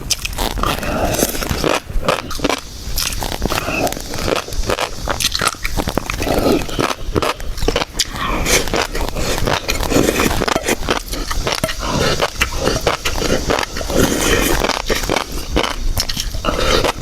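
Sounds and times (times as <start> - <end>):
close chewing with wet crackles: 0.0 - 17.0.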